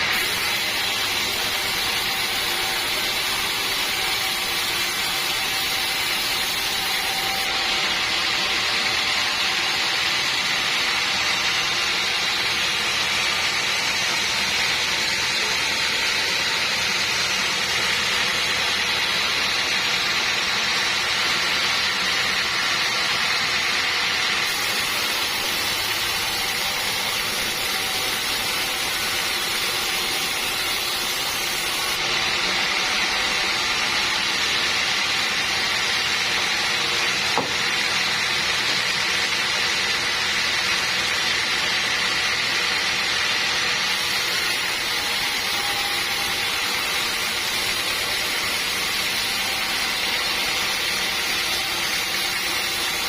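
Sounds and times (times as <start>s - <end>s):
sawmill saw hissing: 0.0s - 53.0s.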